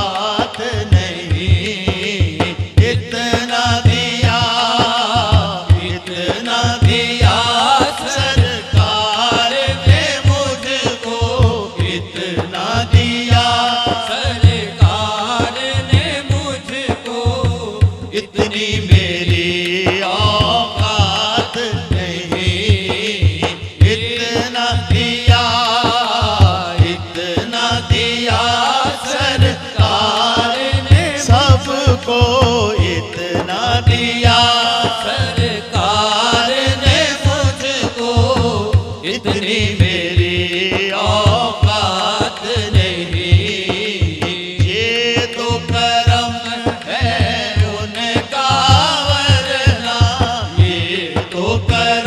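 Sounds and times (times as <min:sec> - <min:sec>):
low drumbeat: 0:00.0 - 0:52.0
man singing into a microphone: 0:00.0 - 0:52.0.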